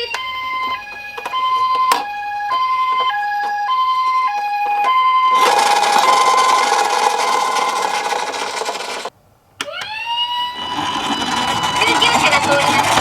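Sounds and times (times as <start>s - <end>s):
toy electronic siren: 0.0s - 13.0s
toy wheels rattling: 0.8s - 9.1s, 10.6s - 13.0s.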